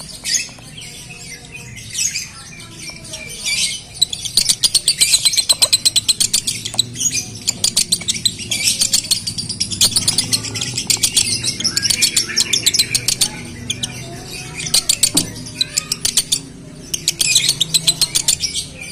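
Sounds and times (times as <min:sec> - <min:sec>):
lovebird chirping and chattering: 0:00.0 - 0:18.9.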